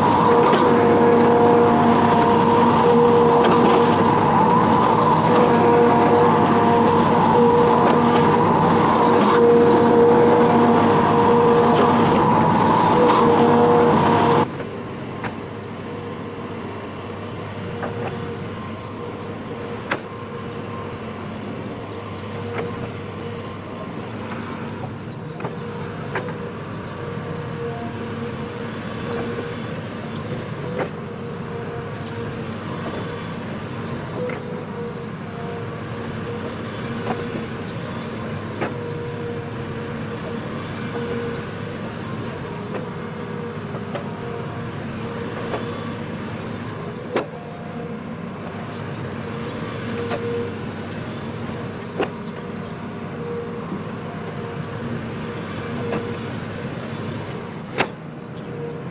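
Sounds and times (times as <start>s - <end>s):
diesel excavator engine running: 0.0s - 58.9s.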